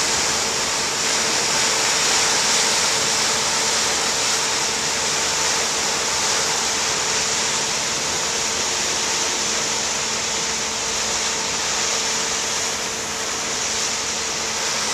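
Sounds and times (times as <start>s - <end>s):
propeller wash churning: 0.0s - 14.9s.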